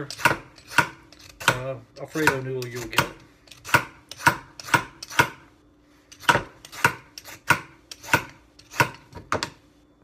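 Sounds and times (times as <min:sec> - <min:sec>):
peeler scraping squash: 0:00.0 - 0:05.4, 0:06.1 - 0:09.0.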